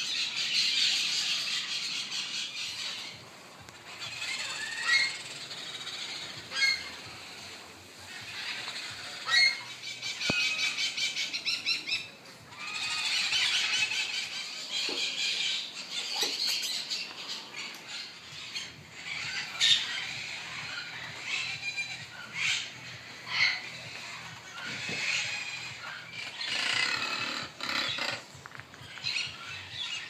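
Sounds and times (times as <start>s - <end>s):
animal squawking and chattering: 0.0s - 30.0s.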